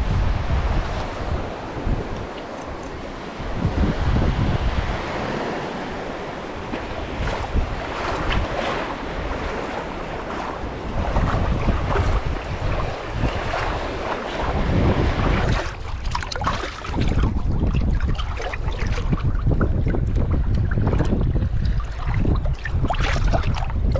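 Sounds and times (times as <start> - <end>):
surf washing: 0.0 - 23.9
wind buffeting microphone: 0.0 - 23.9
water sloshing around legs: 0.9 - 3.9, 4.9 - 23.9.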